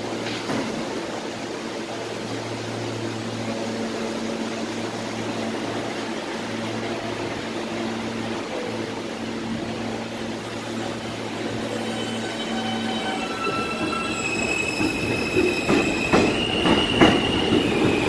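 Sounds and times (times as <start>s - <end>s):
subway car equipment humming: 0.0s - 18.0s.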